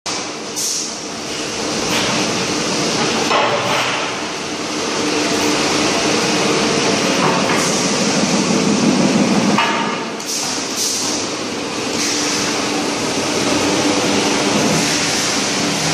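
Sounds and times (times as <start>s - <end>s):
machine hum: 0.1s - 15.9s.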